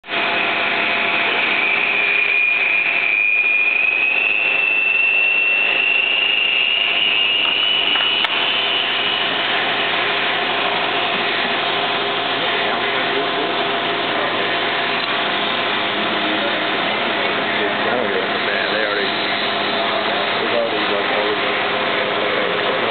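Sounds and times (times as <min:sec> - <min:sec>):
milling machine whining: 0:00.0 - 0:22.9.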